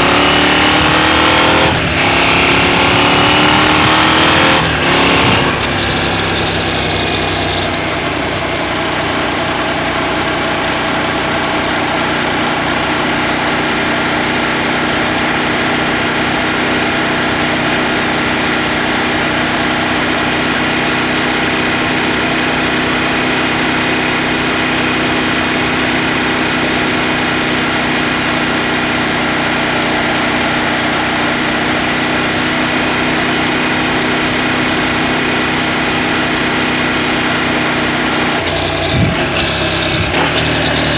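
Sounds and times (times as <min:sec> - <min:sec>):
motorcycle engine running steadily: 0:00.0 - 0:40.9.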